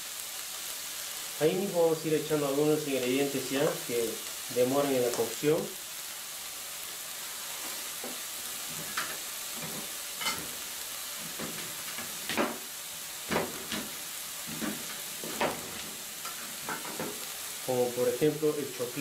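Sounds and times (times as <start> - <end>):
onion and tomato sizzling in oil: 0.0 - 19.0.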